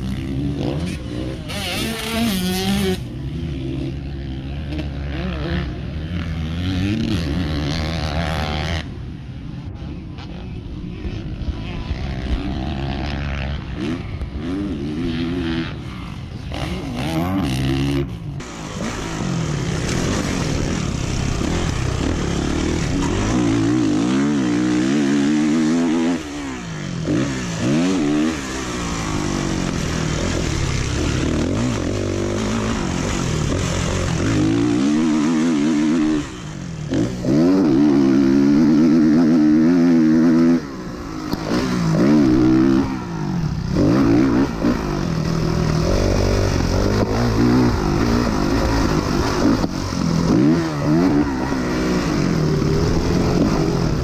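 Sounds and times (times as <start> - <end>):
dirt bike engine revving: 0.0 - 9.0, 10.1 - 54.0.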